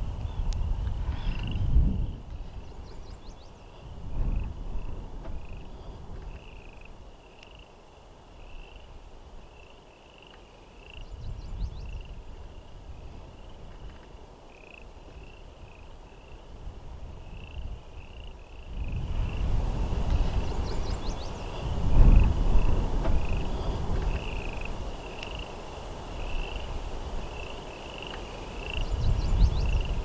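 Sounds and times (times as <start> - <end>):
wind rumble on microphone: 0.0 - 9.6, 10.9 - 30.0
frogs creaking chorus: 1.1 - 16.5, 17.2 - 19.5, 20.1 - 30.0.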